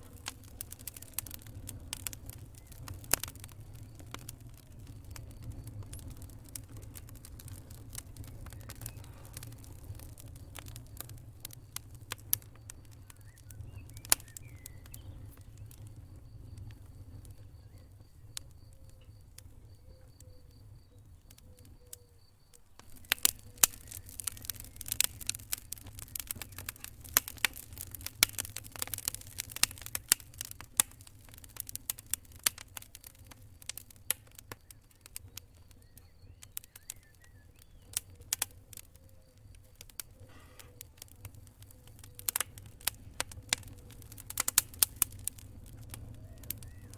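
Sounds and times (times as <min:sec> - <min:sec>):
low fire rumble: 0:00.0 - 0:46.9
wood fire crackling: 0:00.0 - 0:46.9.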